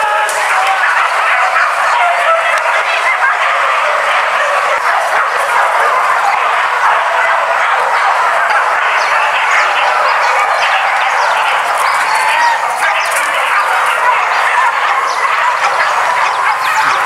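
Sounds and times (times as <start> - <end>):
dogs barking and yelping: 0.0 - 17.0.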